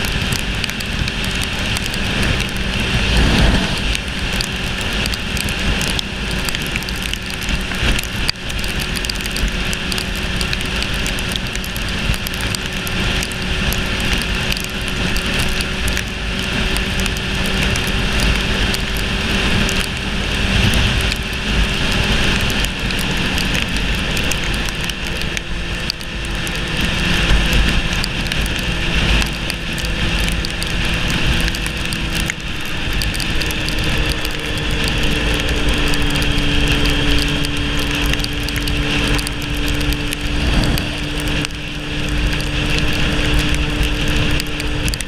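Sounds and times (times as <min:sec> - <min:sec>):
motorcycle engine drone: 0:00.0 - 0:45.0
wind and road noise: 0:00.0 - 0:45.0.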